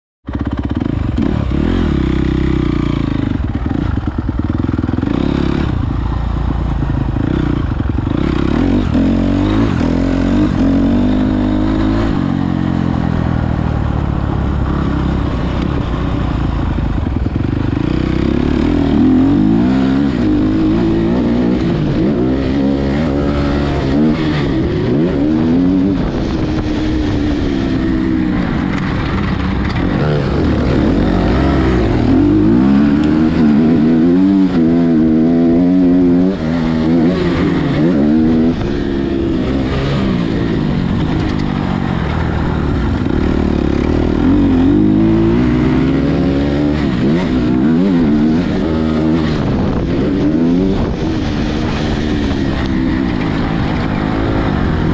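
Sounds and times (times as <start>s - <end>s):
dirt bike engine revving: 0.3s - 54.9s.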